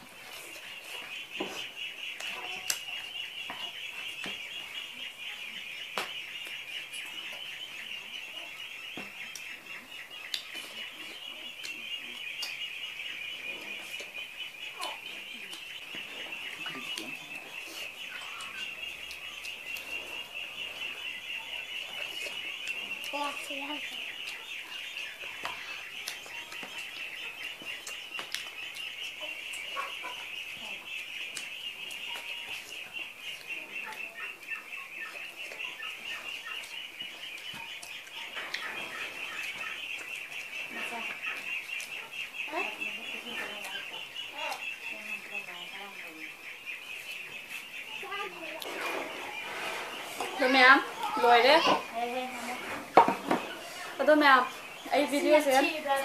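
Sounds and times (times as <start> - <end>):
high-pitched chirping chorus: 0.4 - 56.0.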